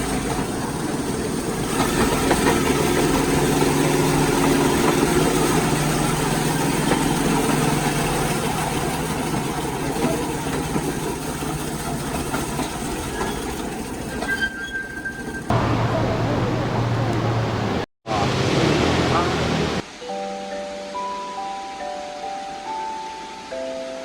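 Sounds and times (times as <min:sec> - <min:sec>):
wheels rumbling and rattling on rails: 0:00.0 - 0:19.9.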